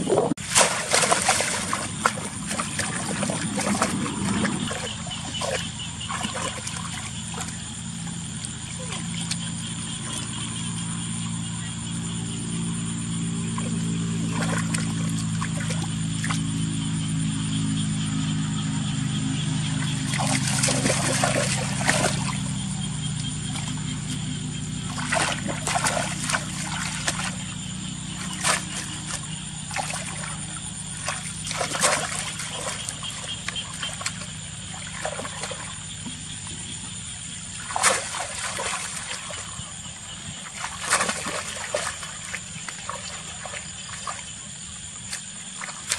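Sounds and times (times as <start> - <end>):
water splashing and dribbling: 0.0 - 11.3, 13.4 - 16.8, 19.6 - 45.9
low steady hum: 0.0 - 45.9.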